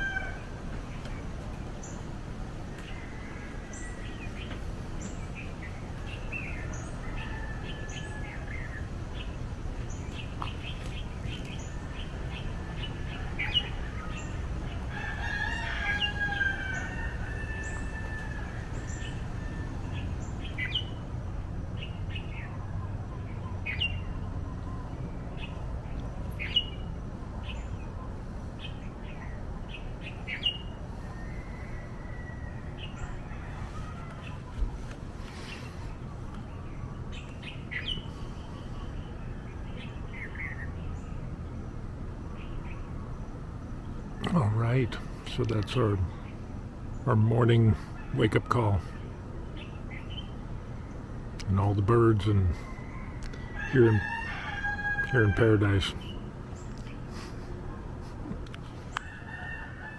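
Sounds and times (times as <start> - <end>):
small birds chirping: 0.0 - 59.6
roosters crowing: 0.0 - 59.9.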